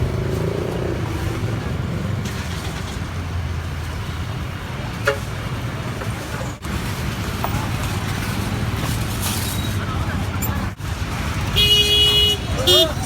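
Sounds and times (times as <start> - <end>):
road traffic: 0.0 - 13.0
truck engine running: 0.0 - 13.0.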